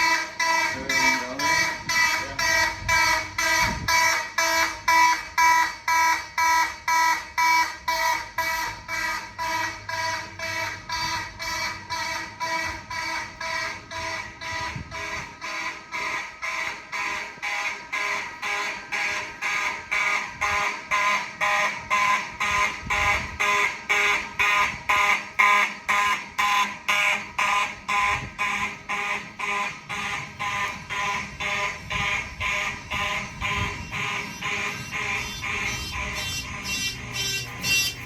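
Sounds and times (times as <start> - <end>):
fire alarm horn pulsing: 0.0 - 38.0.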